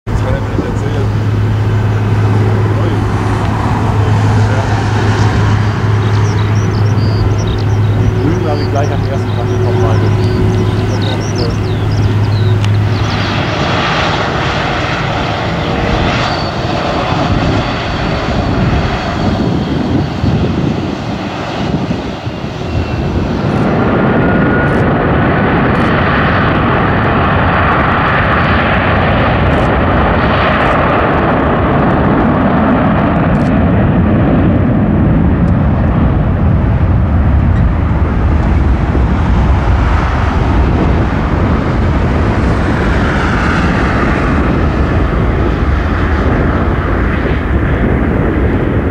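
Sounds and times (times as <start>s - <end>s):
jet engines rumbling: 0.1s - 48.9s.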